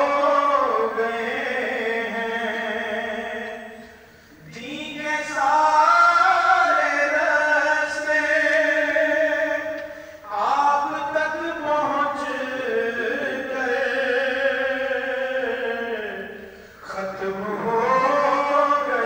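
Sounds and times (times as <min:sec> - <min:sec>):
person chanting: 0:00.0 - 0:19.0.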